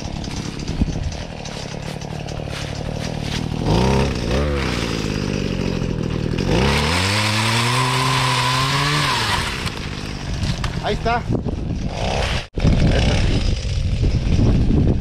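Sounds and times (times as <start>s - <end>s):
pole saw engine revving: 0.0s - 11.1s, 11.7s - 15.0s
saw cutting branch: 0.0s - 14.5s.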